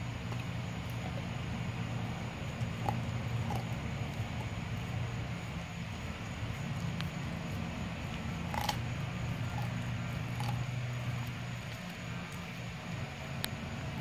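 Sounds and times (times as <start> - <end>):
dog chewing bones: 0.0 - 14.0.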